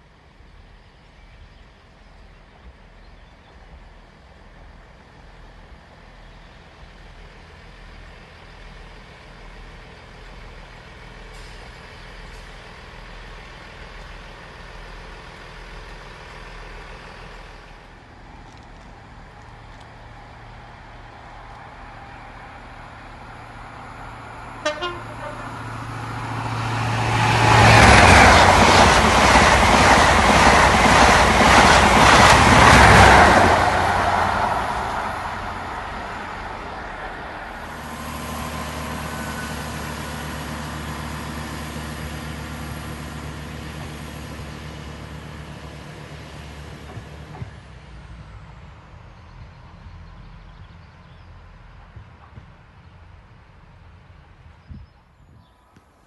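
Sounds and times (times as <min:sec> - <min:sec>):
train passing at speed: 0:00.0 - 0:55.6.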